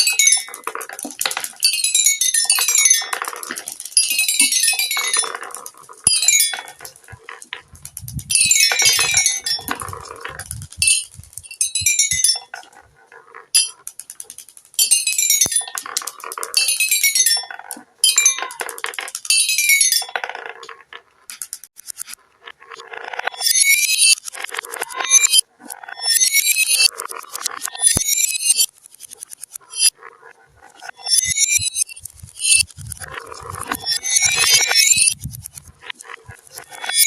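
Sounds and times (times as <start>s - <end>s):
marbles ringing xylophone notes: 0.0s - 13.8s, 14.8s - 20.9s, 23.0s - 30.0s, 30.6s - 37.0s
marbles clattering on track: 0.0s - 37.0s.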